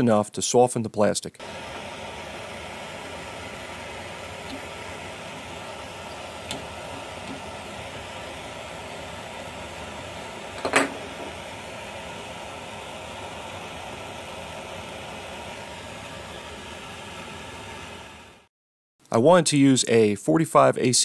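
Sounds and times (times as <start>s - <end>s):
workshop background hum: 0.0s - 18.5s.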